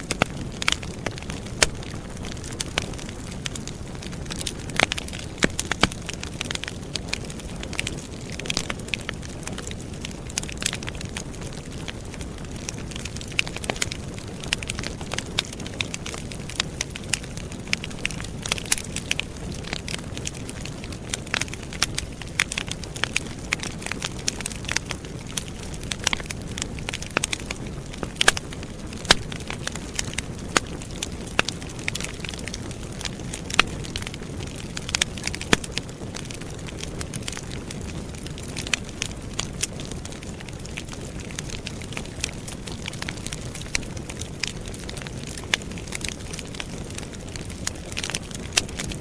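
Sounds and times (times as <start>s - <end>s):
campfire crackling: 0.0s - 49.0s.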